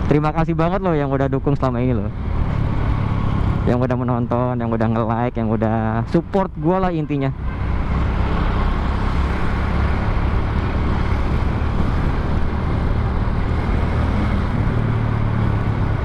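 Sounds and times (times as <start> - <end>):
wind rush and road noise: 0.0 - 16.0.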